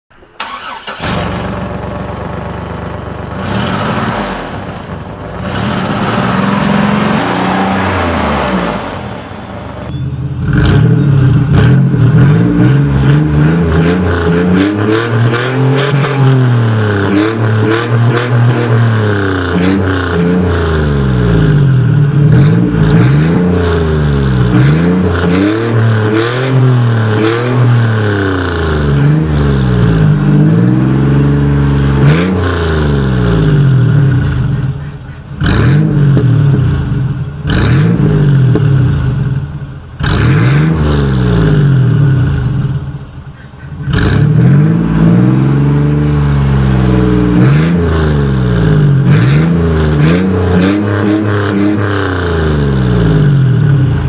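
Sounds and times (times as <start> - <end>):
van engine revving: 0.4 - 54.0.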